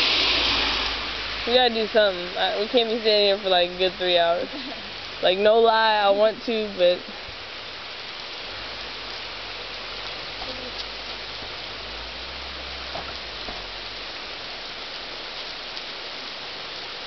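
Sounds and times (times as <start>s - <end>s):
hard rain falling: 0.0s - 17.0s.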